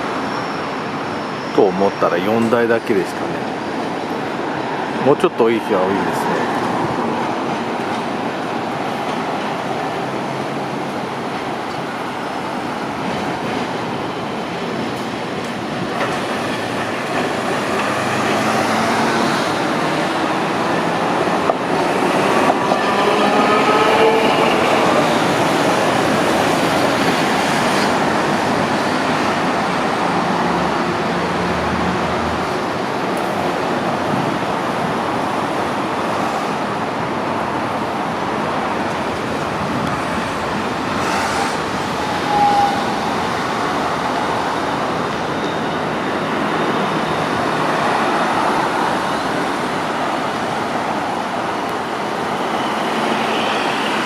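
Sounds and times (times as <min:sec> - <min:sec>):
street traffic noise: 0:00.0 - 0:54.0
streetcar wheels on rail: 0:00.0 - 0:54.0
streetcar whine gliding in pitch: 0:00.0 - 0:54.0.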